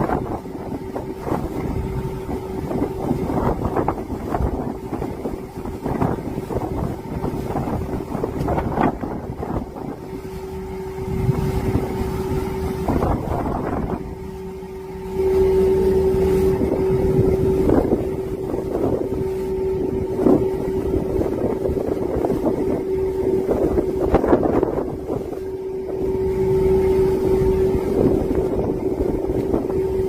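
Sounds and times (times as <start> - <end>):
motor droning: 0.0 - 30.0
wind buffeting microphone: 0.0 - 30.0.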